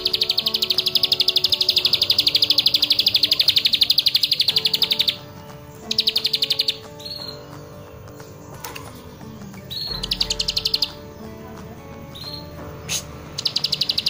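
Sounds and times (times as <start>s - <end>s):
bird singing fast trill: 0.0s - 14.0s.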